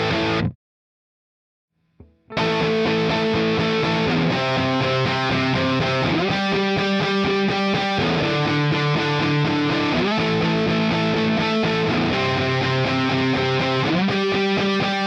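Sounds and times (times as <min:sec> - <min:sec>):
electric guitar chords: 0:00.0 - 0:00.6, 0:02.0 - 0:15.0.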